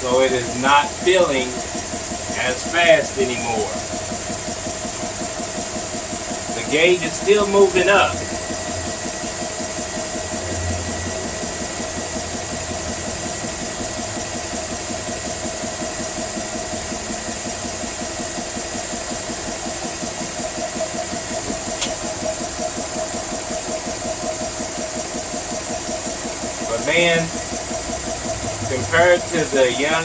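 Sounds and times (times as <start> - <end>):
air compressor pumping and humming: 0.0 - 30.0.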